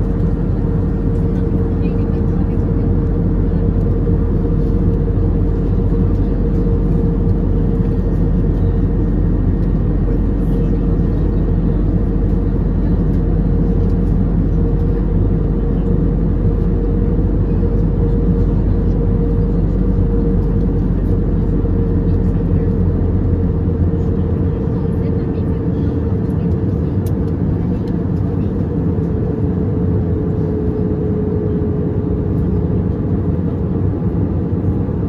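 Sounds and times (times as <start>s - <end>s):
airplane cabin engine drone: 0.0s - 35.0s
constant hum: 0.0s - 35.0s.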